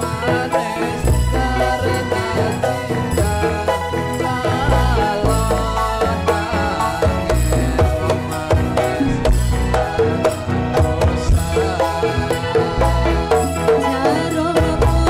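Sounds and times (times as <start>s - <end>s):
folk dance music: 0.0s - 15.0s
steady drumming and percussion: 0.0s - 15.0s.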